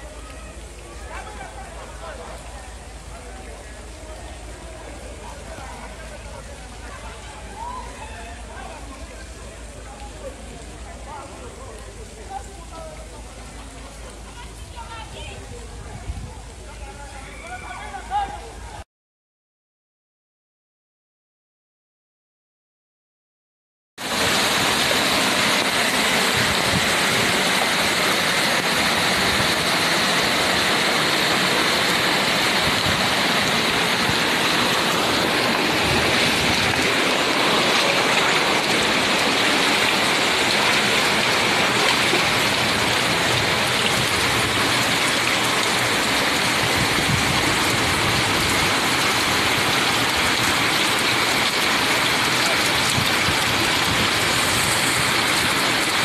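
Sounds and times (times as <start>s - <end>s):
heavy rain hissing: 0.0s - 18.8s, 24.0s - 56.0s.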